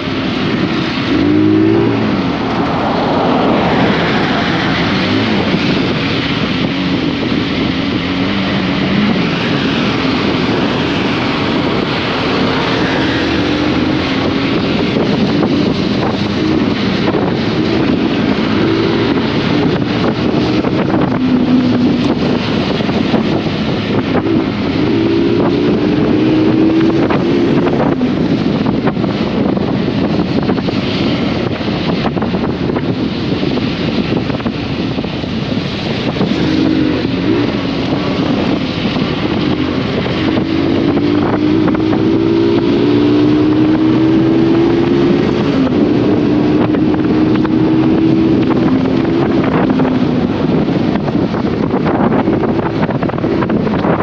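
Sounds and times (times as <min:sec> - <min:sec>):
wind rush on microphone: 0:00.0 - 0:54.0
motorcycle engine running: 0:03.6 - 0:54.0.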